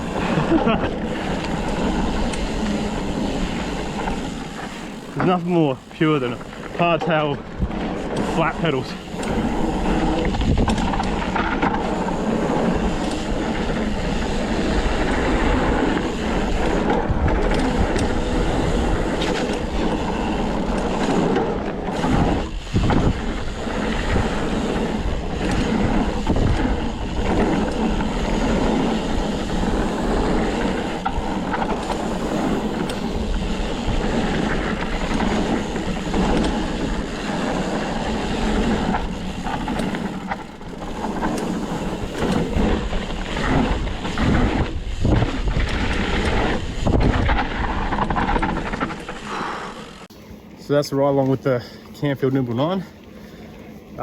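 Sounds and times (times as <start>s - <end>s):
bike knocks and rattles: 0.0s - 50.0s
wind rushing over microphone: 0.0s - 50.1s
tyres rolling over rocky trail: 0.0s - 54.0s.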